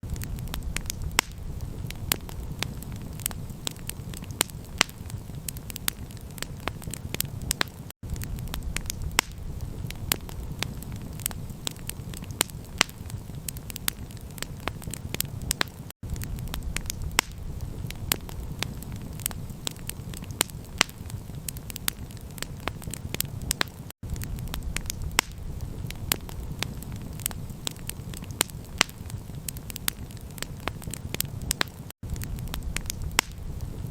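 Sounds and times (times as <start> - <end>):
campfire crackling: 0.0 - 33.9.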